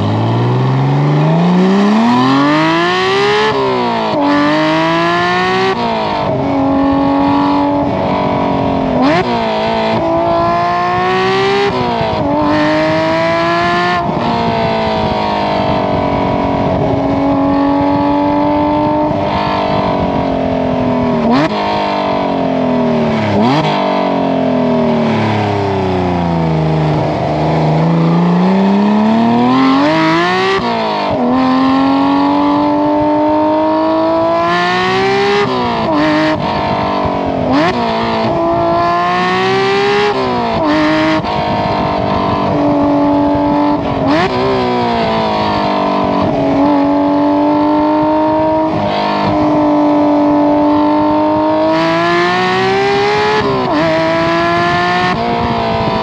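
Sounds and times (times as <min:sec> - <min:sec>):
sports car exhaust revving: 0:00.0 - 0:56.0.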